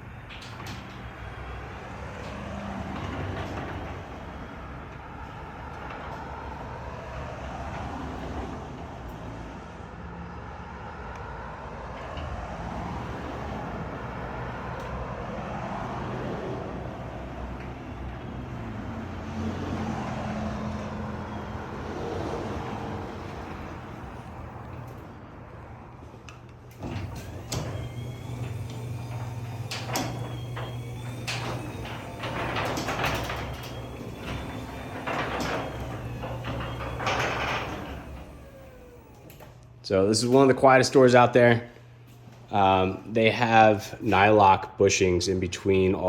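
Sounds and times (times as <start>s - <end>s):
garage door rollers rumbling: 0.0s - 10.7s, 11.5s - 41.5s
garage door opener motor hum: 0.0s - 43.0s.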